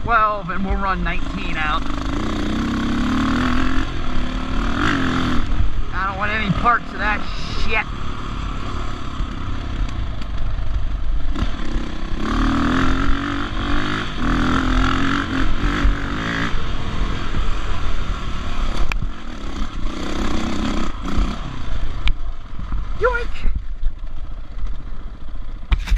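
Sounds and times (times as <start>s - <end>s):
dirt bike engine running: 0.0s - 25.9s.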